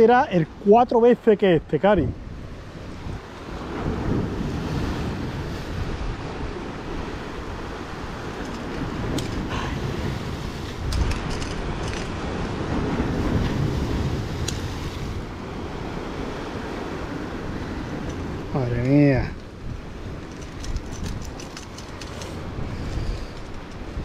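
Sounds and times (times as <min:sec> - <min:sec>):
surf washing against rocks: 0:00.0 - 0:24.0
wind buffeting microphone: 0:01.9 - 0:24.0.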